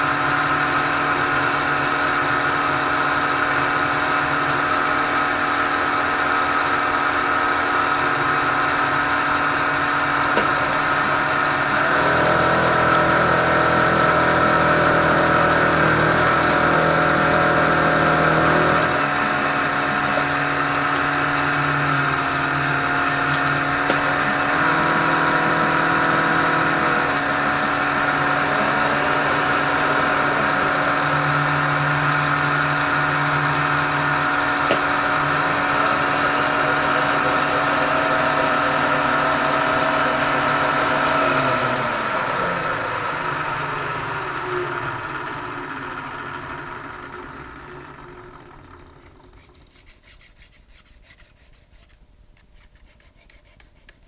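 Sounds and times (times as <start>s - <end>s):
milling machine cutting steel: 0.0s - 46.8s.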